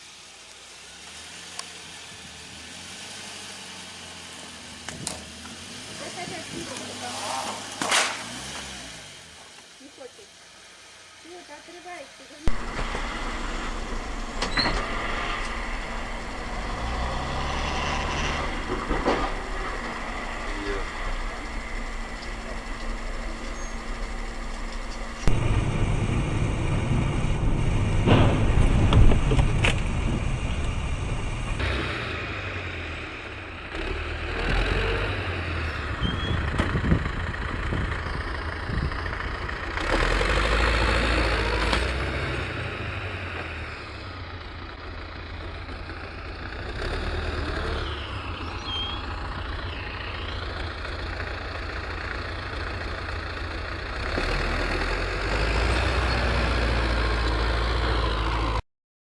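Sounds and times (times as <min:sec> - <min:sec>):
truck engine revving: 0:00.0 - 0:11.2, 0:12.4 - 0:58.6.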